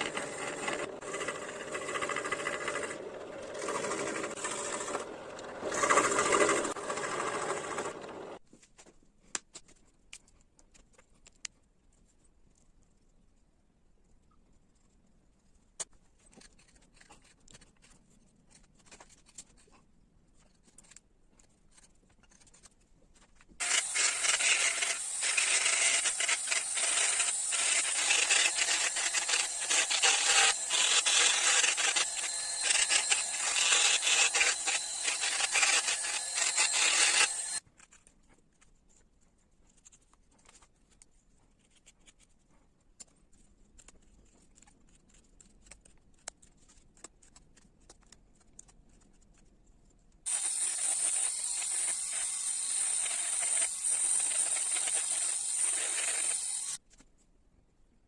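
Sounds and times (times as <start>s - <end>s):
hand carving scrapes and clicks: 0.0s - 8.1s, 9.3s - 13.5s, 14.1s - 57.3s.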